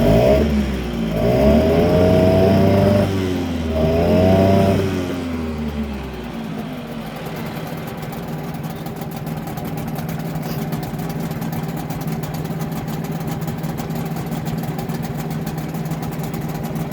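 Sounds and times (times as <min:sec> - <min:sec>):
outboard engine idling: 0:00.0 - 0:16.9.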